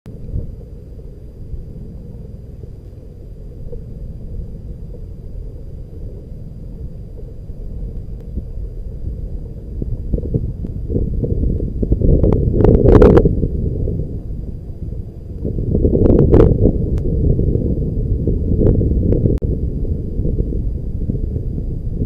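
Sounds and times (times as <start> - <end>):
wind buffeting microphone: 0.1 - 22.0.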